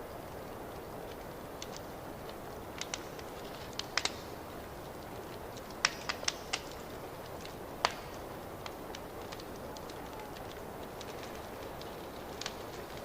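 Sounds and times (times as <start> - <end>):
fire hissing and rumbling: 0.0 - 13.0
wood fire pops and snaps: 0.6 - 13.0.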